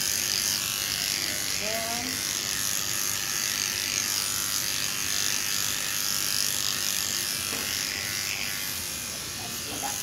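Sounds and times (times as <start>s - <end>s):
electric clipper running: 0.0s - 10.0s.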